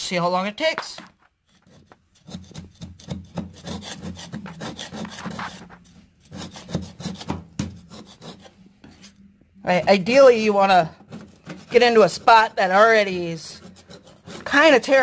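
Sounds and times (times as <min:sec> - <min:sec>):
metal knife scraping tar paper: 0:01.4 - 0:09.2, 0:09.9 - 0:15.0.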